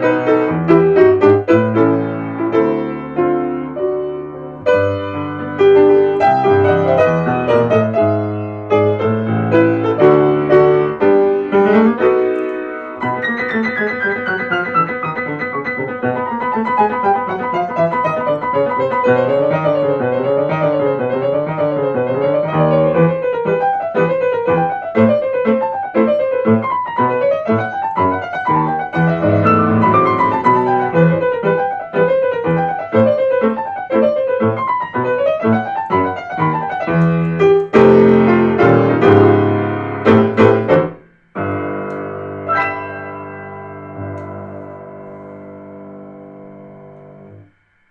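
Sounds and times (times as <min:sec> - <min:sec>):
solo piano chords and arpeggios: 0:00.0 - 0:47.9.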